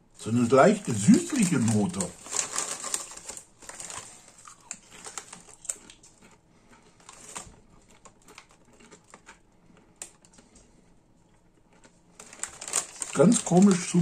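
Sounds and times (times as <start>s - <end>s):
foil crisp bag crinkling: 0.2s - 9.4s, 11.7s - 14.0s
crisps crackling: 0.2s - 14.0s.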